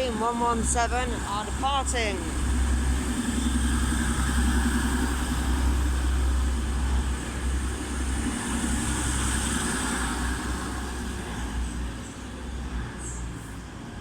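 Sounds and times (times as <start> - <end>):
diesel train engine drone: 0.0 - 14.0.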